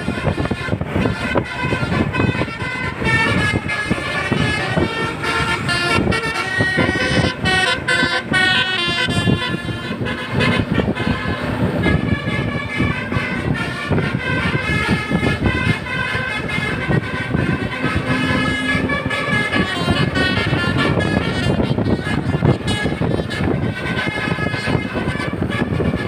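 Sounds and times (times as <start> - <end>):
multi-tone bus horn tune: 0.0 - 26.0
vehicle noise: 0.0 - 26.0.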